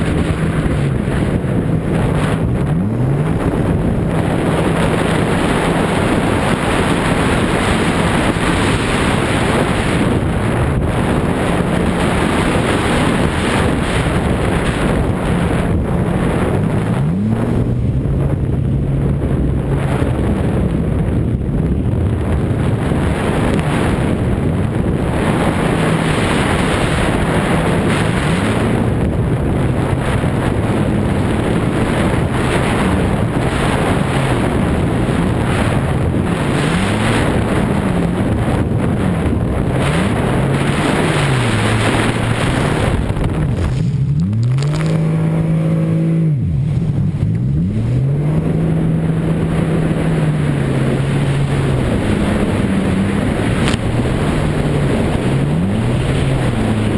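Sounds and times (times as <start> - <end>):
jet ski engine revving: 0.0 - 56.9
wind buffeting microphone: 0.0 - 56.9.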